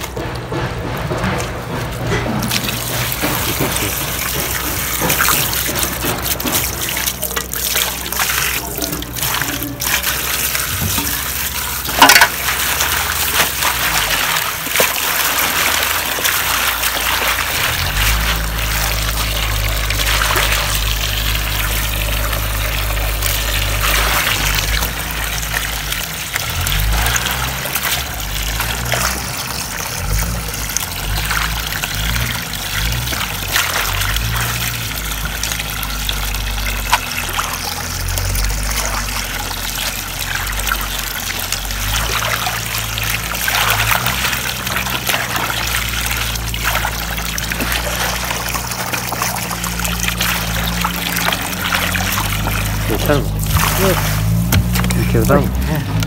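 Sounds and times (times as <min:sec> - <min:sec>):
running water splashing: 0:00.0 - 0:56.0.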